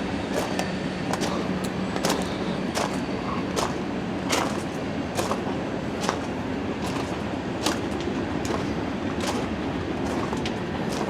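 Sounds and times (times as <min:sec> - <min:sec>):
footsteps on gravel: 0:00.2 - 0:11.0.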